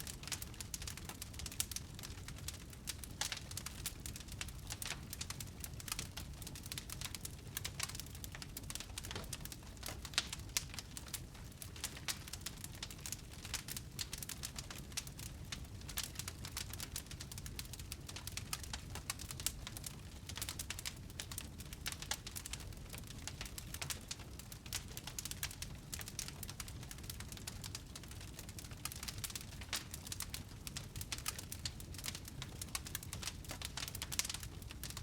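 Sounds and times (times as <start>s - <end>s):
low rumble of flames: 0.0s - 35.0s
wood fire crackling and popping: 0.0s - 35.0s.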